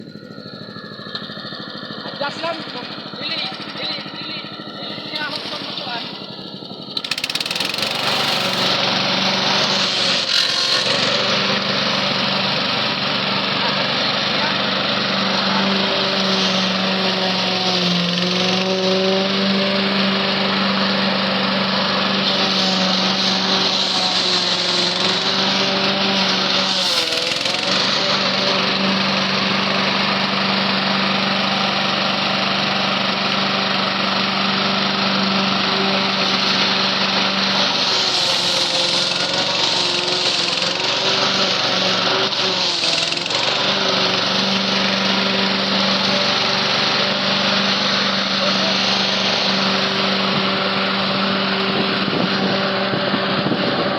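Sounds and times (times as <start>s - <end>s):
lawn mower engine running: 0.0s - 53.9s.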